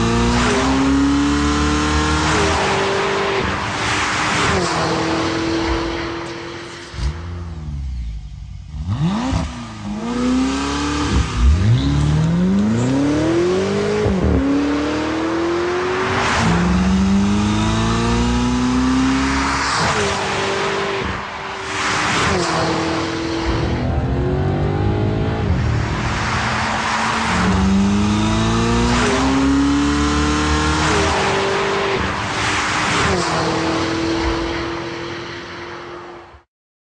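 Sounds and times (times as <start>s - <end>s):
car engine accelerating: 0.0s - 34.8s.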